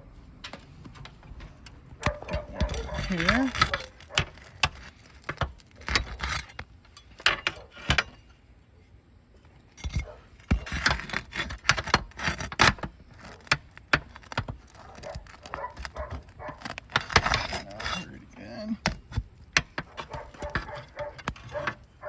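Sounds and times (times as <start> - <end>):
pry bar scraping roof shingles: 0.4 - 8.4, 9.4 - 22.0.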